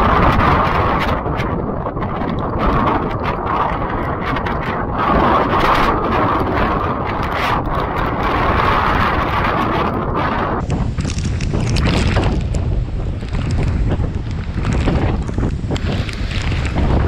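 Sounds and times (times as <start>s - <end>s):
driving rain: 0.0s - 17.0s
strong wind buffeting microphone: 0.0s - 17.0s.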